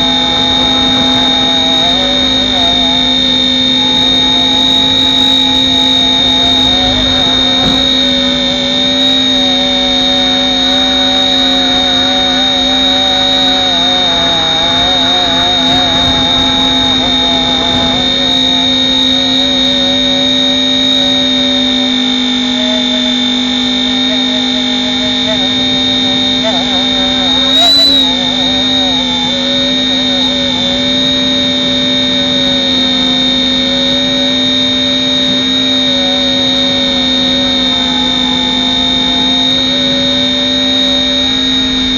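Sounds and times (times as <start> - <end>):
rc helicopter motor whine: 0.0 - 41.9.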